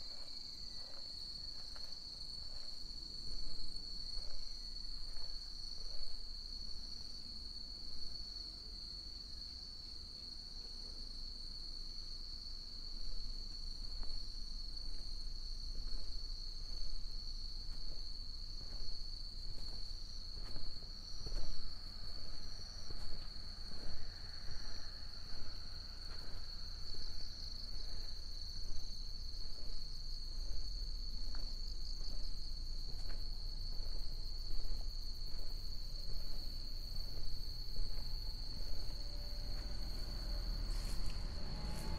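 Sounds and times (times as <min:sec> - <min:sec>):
footsteps on a path: 0:00.0 - 0:07.2, 0:13.5 - 0:41.9
crickets trilling: 0:00.0 - 0:41.9.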